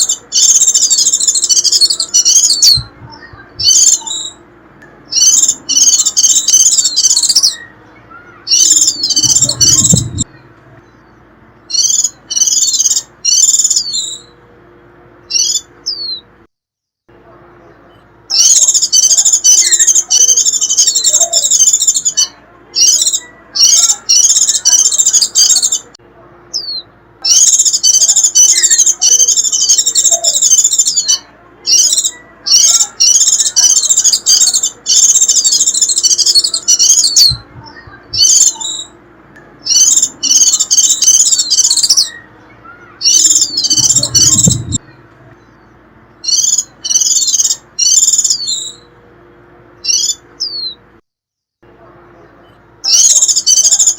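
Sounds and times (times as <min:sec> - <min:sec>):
bird high-pitched twittering song: 0:00.0 - 0:14.4, 0:15.2 - 0:16.3, 0:17.6 - 0:49.0, 0:49.8 - 0:50.8, 0:52.1 - 0:53.9.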